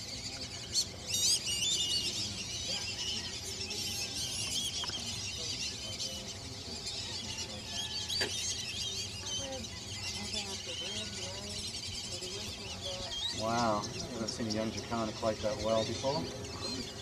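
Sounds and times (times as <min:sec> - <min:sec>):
chorus of birds chirping: 0:00.0 - 0:17.0.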